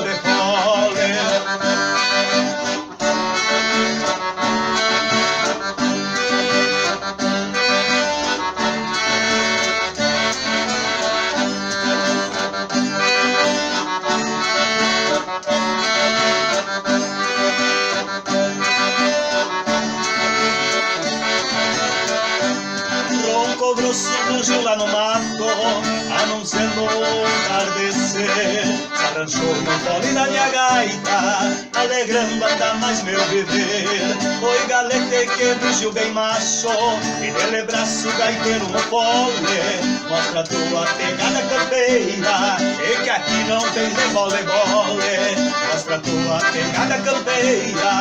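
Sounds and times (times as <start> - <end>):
accordion playing chords: 0.0 - 48.0.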